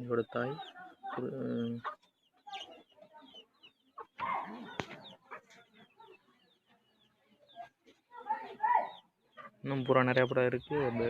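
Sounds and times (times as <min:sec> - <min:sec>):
birds chirping and squeaking: 0:00.0 - 0:11.0.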